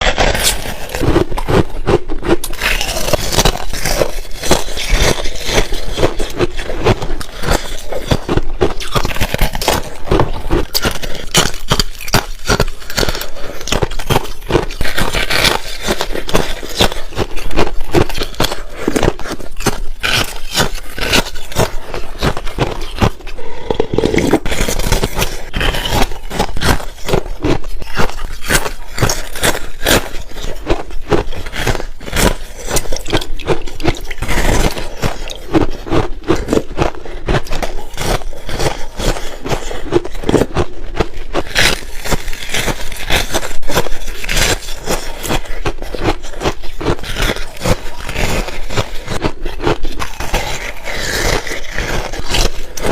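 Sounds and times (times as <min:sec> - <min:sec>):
ice crunching between teeth: 0:00.0 - 0:52.9.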